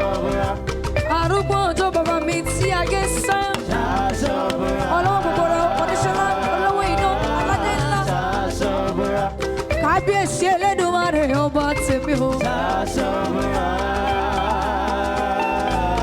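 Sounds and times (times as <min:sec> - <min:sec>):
live gospel band music: 0:00.0 - 0:16.0.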